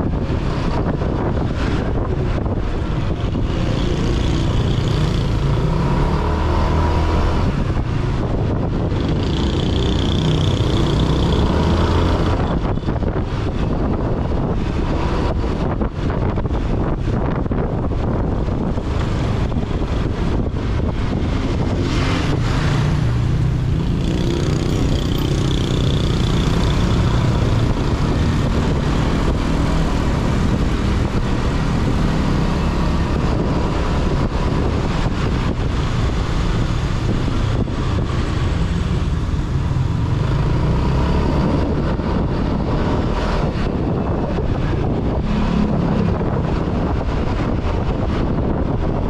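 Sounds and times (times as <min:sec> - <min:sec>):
scooter engine and tyre noise: 0:00.0 - 0:49.0
wind rushing over microphone: 0:00.0 - 0:49.0.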